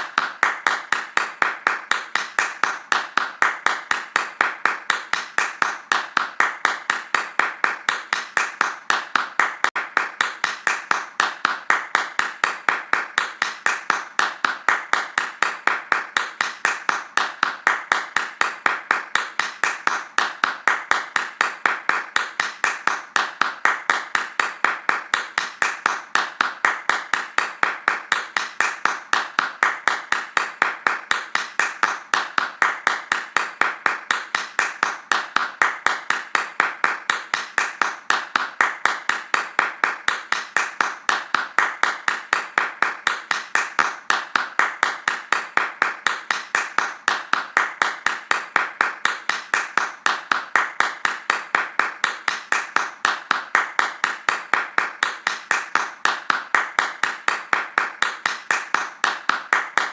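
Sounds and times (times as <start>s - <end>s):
hands clapping fast: 0.0s - 59.9s.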